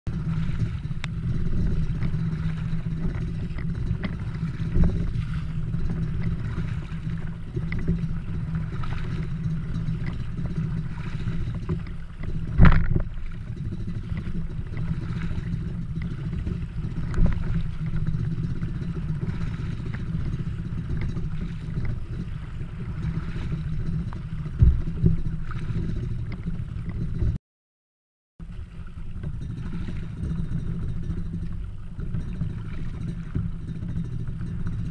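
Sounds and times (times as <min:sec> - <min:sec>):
water sloshing: 0:00.1 - 0:27.4, 0:28.4 - 0:34.9
wind rumbling on microphone: 0:00.1 - 0:27.4, 0:28.4 - 0:34.9.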